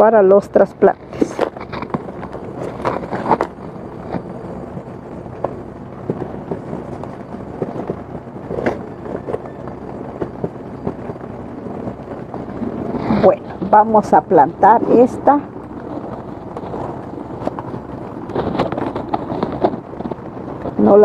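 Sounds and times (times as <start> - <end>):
hands working potting soil and pots: 0.0 - 4.6, 5.4 - 21.0
low outdoor background rumble: 0.0 - 21.0.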